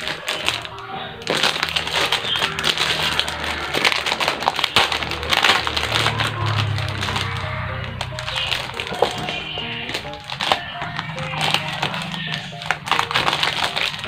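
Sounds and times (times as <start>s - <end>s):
background music: 0.0s - 14.0s
packaging crinkling: 0.0s - 14.0s.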